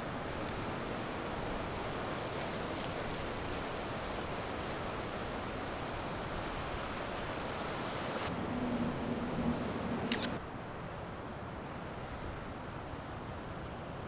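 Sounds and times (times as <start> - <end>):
sea surf: 0.0 - 14.0
wind: 0.0 - 14.0.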